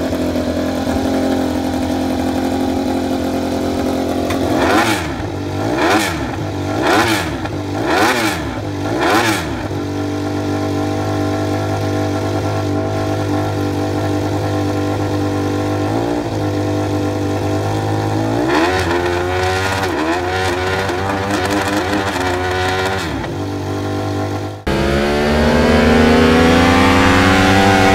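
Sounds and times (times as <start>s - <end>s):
motorcycle engine revving and idling: 0.0s - 27.9s.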